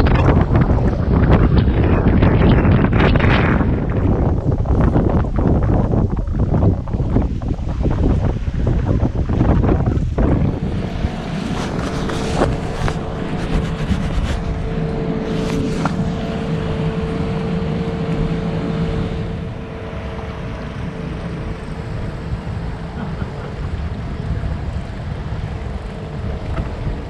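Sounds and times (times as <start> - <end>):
boat engine humming: 0.0 - 27.0
wind on microphone: 0.0 - 27.0.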